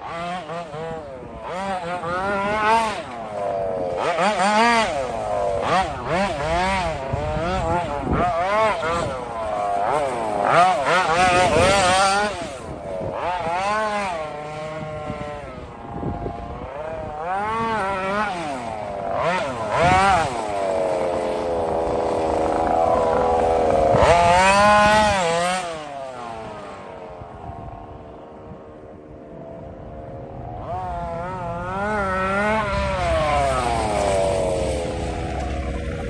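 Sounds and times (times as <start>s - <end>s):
rc car engine revving: 0.0s - 29.1s, 29.7s - 36.0s.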